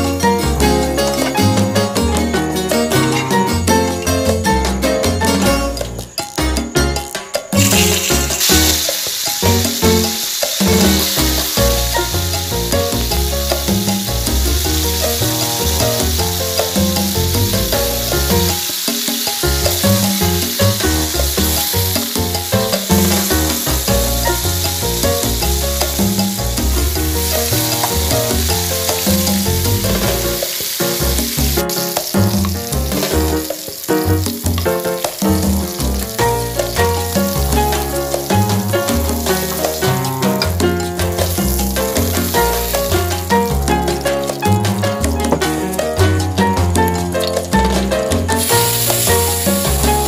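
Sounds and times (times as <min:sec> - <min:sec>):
background music: 0:00.0 - 0:50.0
meat sizzling in oil: 0:07.0 - 0:50.0.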